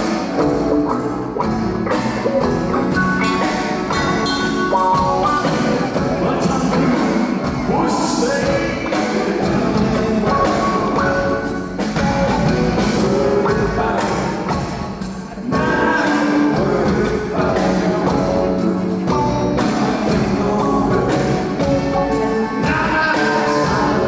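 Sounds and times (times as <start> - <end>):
electric guitars: 0.0 - 24.0.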